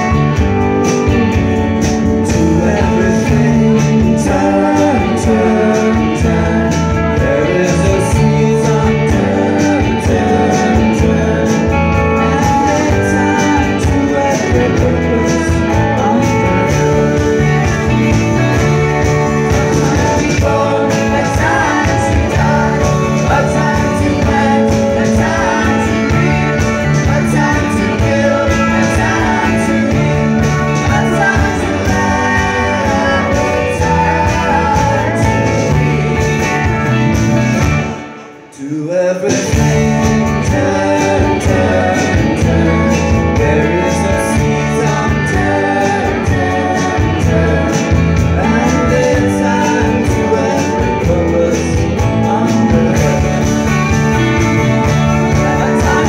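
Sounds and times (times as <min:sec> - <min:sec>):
acoustic guitar: 0:00.0 - 0:56.0
drums: 0:00.0 - 0:56.0
electric guitar: 0:00.0 - 0:56.0
group singing: 0:00.0 - 0:56.0.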